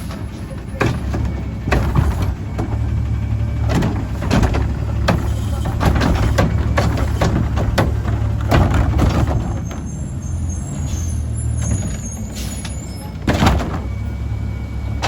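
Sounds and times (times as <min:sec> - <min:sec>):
metal clanks and knocks: 0:00.0 - 0:09.9, 0:11.6 - 0:14.4
garbage truck engine droning: 0:00.0 - 0:15.0.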